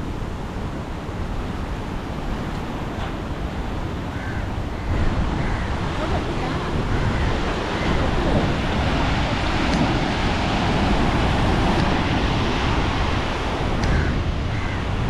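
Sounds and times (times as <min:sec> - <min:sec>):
sea surf washing in: 0:00.0 - 0:15.0
wind buffeting microphone: 0:00.0 - 0:15.0.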